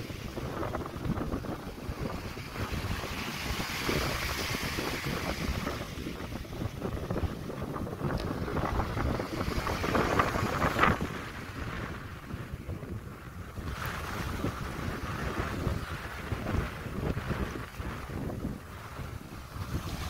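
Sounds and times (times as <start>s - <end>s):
small waves breaking on beach: 0.0s - 20.0s
wind buffeting microphone: 0.0s - 20.0s.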